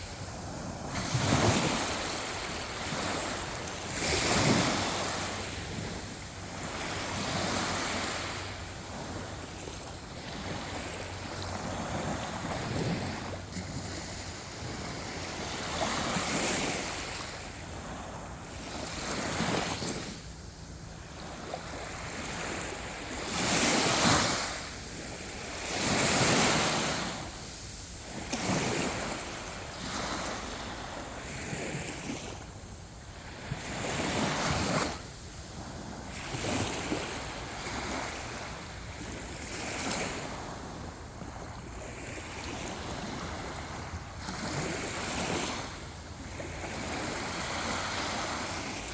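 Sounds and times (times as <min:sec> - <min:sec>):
sea waves breaking on beach: 0:00.0 - 0:48.9.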